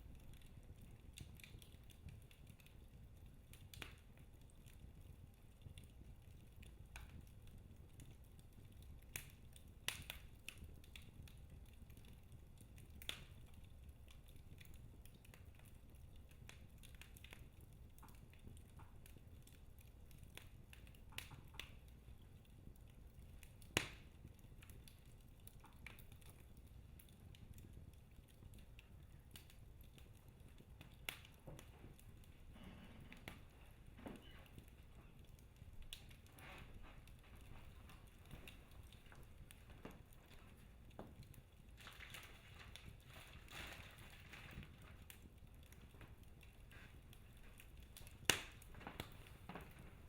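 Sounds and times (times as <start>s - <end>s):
faint low rumble of fire: 0.0s - 50.0s
wood fire popping and snapping: 0.0s - 50.0s.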